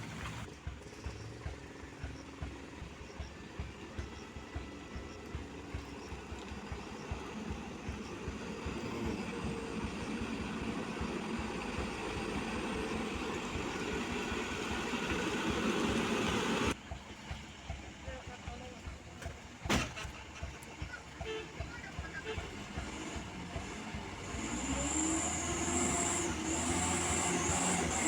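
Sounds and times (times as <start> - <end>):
heavy truck engine under load: 0.0 - 28.0.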